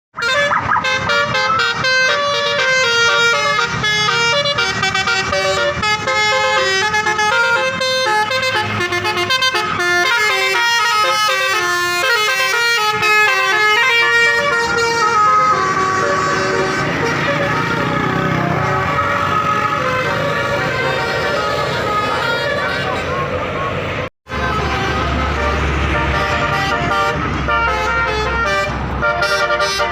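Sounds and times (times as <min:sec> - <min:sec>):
multi-tone musical air horn: 0:00.2 - 0:23.7, 0:24.3 - 0:29.9
bus engine running: 0:00.2 - 0:29.9.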